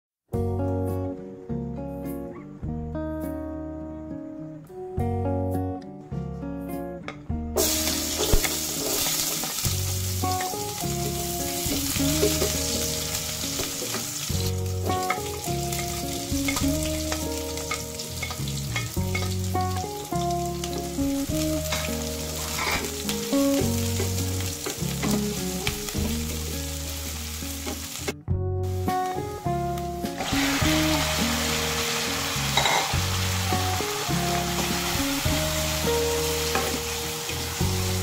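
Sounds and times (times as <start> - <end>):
onion and garlic sizzling in oil: 7.6 - 38.0.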